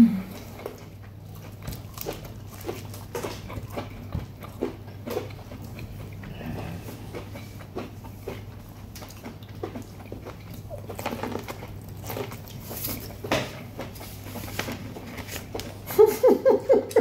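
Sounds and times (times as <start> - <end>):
steady low hum: 0.0 - 17.0
chewing corn on the cob: 0.3 - 16.3.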